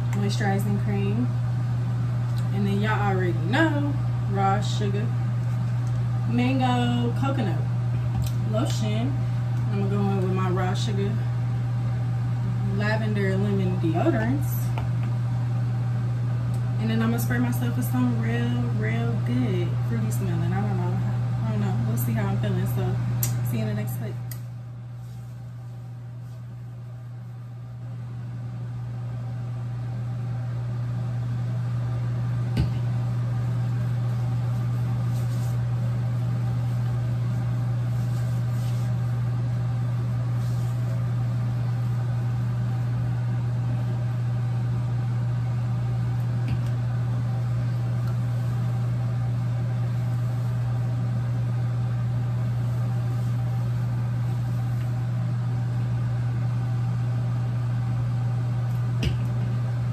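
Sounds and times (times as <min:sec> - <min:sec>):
low-pitched hum: 0:00.0 - 0:59.9.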